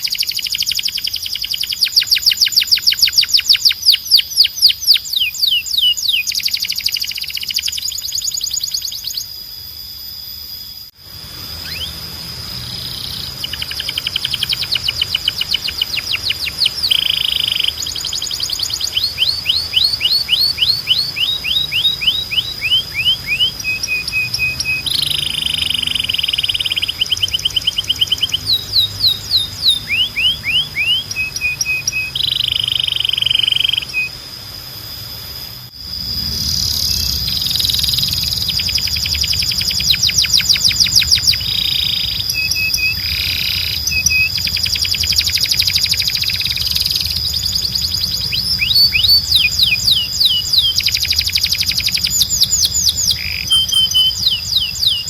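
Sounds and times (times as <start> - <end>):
canary singing trills: 0.0 - 9.7, 10.5 - 55.0.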